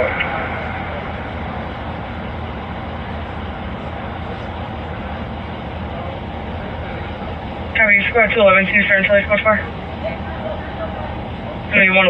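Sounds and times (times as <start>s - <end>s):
motor vehicle idling: 0.0s - 12.0s.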